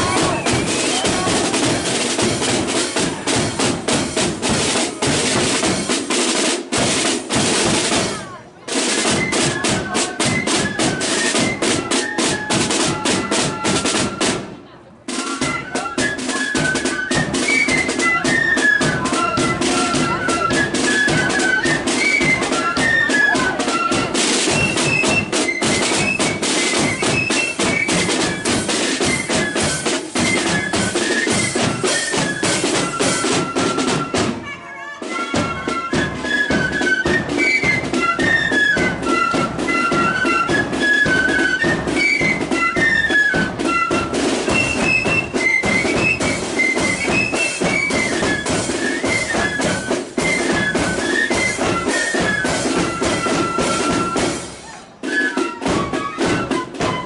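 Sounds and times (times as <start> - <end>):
high flutes playing melody: 0.0 - 6.0, 7.6 - 57.0
snare and bass drums beat: 0.0 - 34.5, 35.1 - 57.0.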